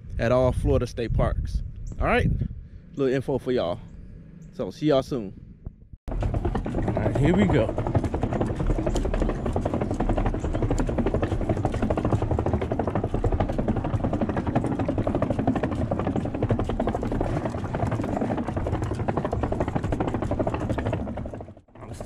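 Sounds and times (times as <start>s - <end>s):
wind buffeting microphone: 0.0s - 4.5s, 5.3s - 22.0s.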